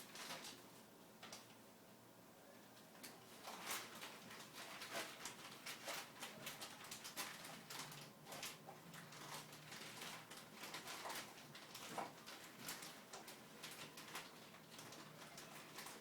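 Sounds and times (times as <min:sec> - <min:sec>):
puppy rustling in garbage can: 0:00.0 - 0:00.6, 0:03.3 - 0:16.0.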